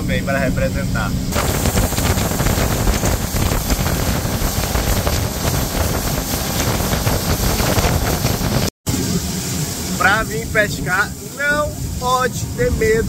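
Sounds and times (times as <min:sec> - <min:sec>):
boat motor and water rushing: 0:00.0 - 0:13.0
wind buffeting microphone: 0:00.2 - 0:13.0.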